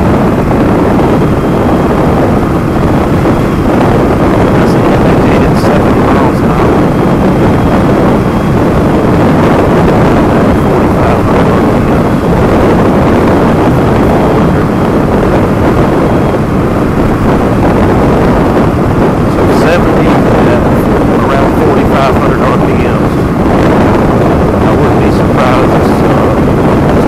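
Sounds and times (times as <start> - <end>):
motorcycle engine drone: 0.0 - 27.0
wind buffeting microphone: 0.0 - 27.0.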